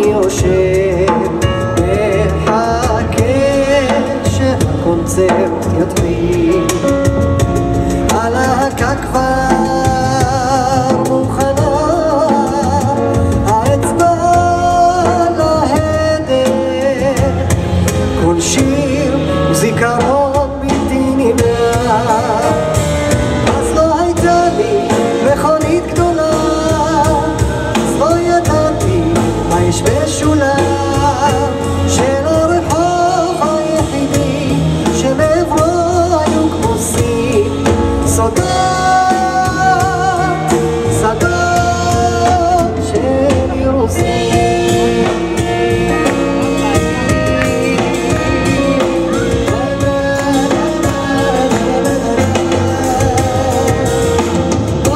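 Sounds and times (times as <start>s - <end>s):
man singing with vibrato: 0.0s - 54.9s
stage keyboard: 0.0s - 54.9s
upright double bass: 0.0s - 54.9s.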